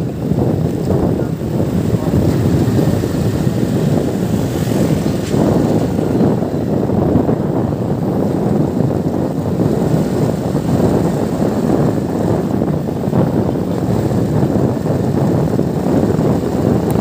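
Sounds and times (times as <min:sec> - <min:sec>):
motorcycle running: 0:00.0 - 0:17.0
road noise: 0:00.0 - 0:17.0
wind buffeting microphone: 0:00.0 - 0:17.0.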